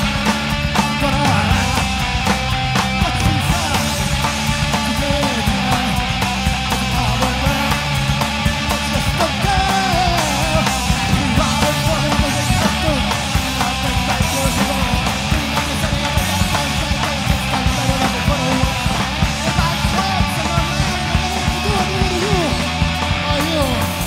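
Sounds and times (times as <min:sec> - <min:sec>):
drum kit: 0:00.0 - 0:24.0
electric guitar: 0:00.0 - 0:24.0
punk rock band playing live: 0:00.0 - 0:24.0.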